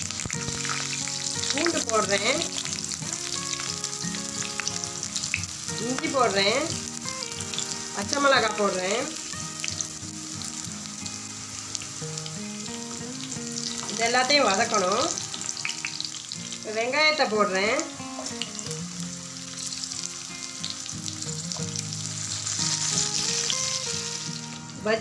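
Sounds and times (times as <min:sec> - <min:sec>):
background music: 0:00.0 - 0:25.0
food sizzling in hot oil: 0:00.0 - 0:25.0.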